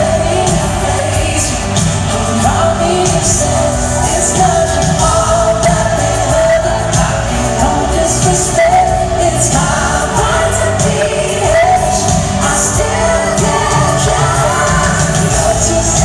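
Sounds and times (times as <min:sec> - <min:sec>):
amplified band music: 0:00.0 - 0:16.0
person singing: 0:00.0 - 0:16.0.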